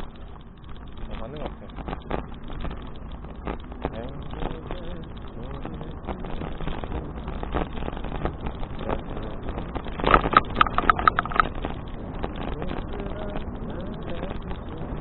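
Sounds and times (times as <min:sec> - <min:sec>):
bicycle tyre and rattle noise: 0:00.0 - 0:15.0
sharp ringing ticks: 0:00.0 - 0:15.0
wind on microphone: 0:00.0 - 0:15.0.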